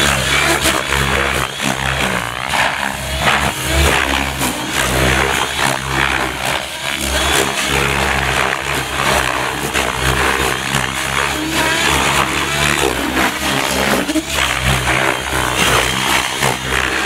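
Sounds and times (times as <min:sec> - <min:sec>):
helicopter rotor beating: 0:00.0 - 0:17.0.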